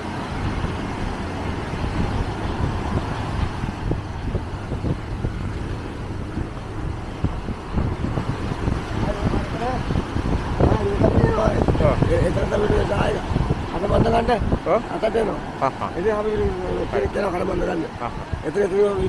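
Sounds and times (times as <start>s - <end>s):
sea surf washing in: 0.0s - 19.0s
wind buffeting microphone: 0.0s - 19.0s.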